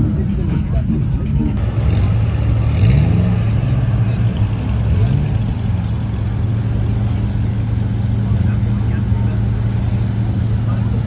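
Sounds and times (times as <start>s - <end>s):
car engine revving: 0.1s - 11.0s.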